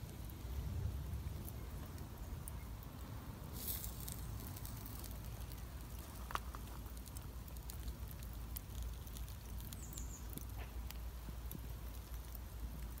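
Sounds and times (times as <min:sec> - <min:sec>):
charcoal crackling: 0:00.0 - 0:13.0
low steady rumble: 0:00.0 - 0:13.0.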